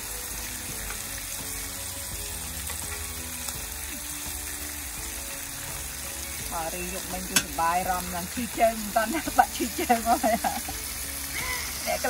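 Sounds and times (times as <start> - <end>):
meat sizzling on grill pan: 0.0 - 12.0.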